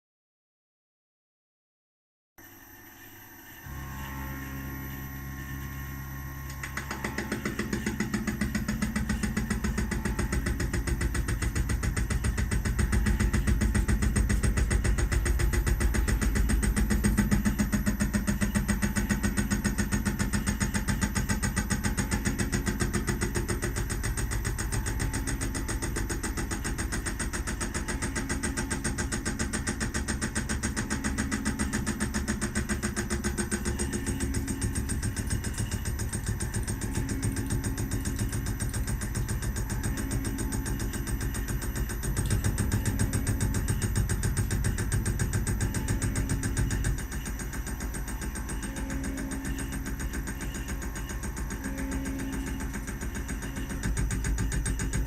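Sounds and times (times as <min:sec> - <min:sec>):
milling machine cutting metal: 0:03.7 - 0:55.0
fast machining chatter: 0:06.6 - 0:55.0.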